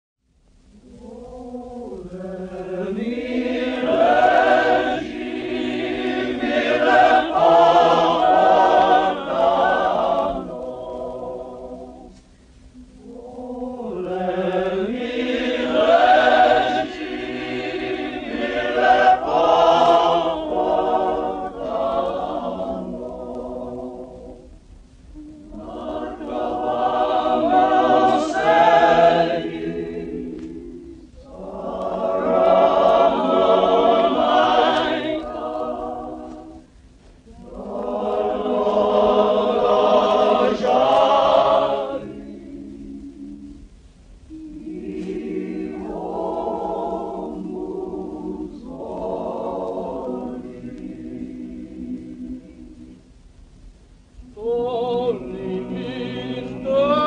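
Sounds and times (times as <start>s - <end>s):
male chorus singing: 0.9s - 12.1s, 13.0s - 24.5s, 25.5s - 36.7s, 37.3s - 43.6s, 44.3s - 53.0s, 54.4s - 57.0s.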